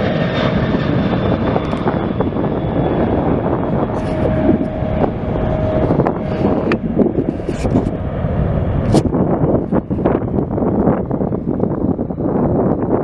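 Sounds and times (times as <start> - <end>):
aircraft engine rumble: 0.0 - 13.0
wind buffeting microphone: 0.0 - 13.0.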